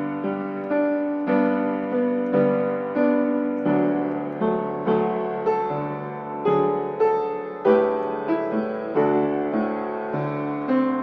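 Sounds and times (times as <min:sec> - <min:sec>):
piano chords ringing: 0:00.0 - 0:11.0.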